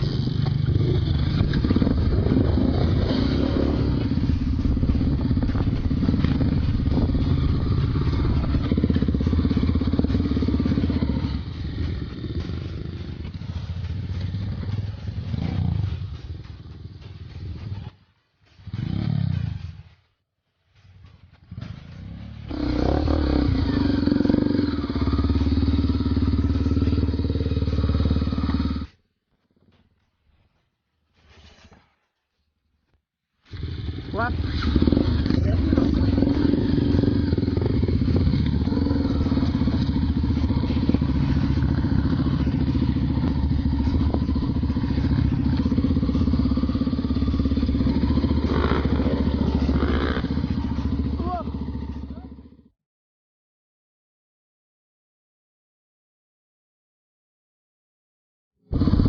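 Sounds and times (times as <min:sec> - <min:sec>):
motorcycle engine running: 0:00.0 - 0:20.1, 0:20.8 - 0:29.0, 0:33.5 - 0:52.7, 0:58.7 - 0:59.0.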